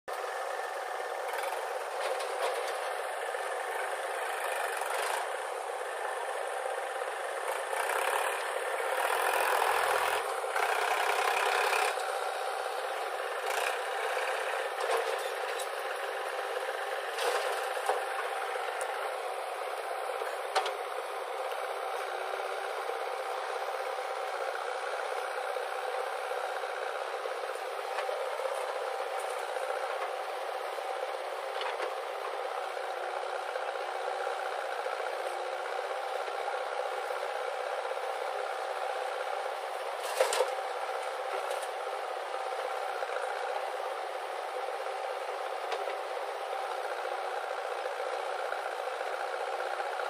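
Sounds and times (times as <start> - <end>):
diesel engines running: 0.1 - 50.0.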